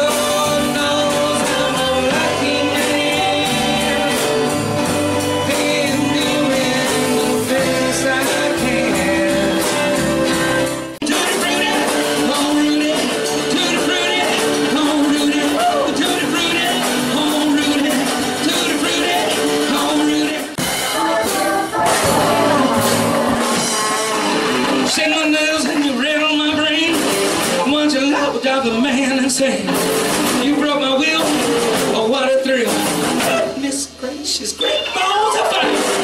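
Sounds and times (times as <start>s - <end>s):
live rock and roll band: 0.0s - 36.0s
person singing: 0.0s - 36.0s.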